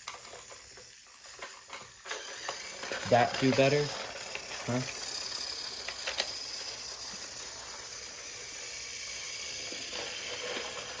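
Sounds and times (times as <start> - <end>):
toy train motors whirring: 0.0 - 11.0.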